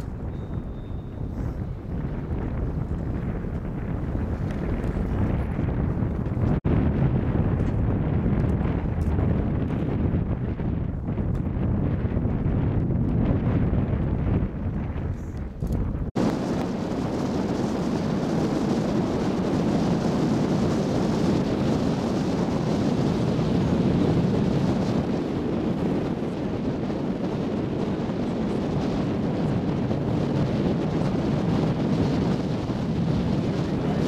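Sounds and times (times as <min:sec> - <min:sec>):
boat rushing on water: 0:00.0 - 0:34.0
wind buffeting microphone: 0:00.0 - 0:34.0.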